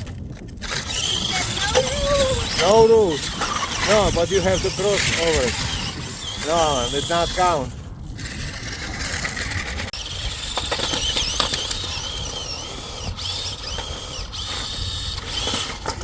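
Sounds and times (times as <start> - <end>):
toy electric motors whining: 0.1 - 16.0.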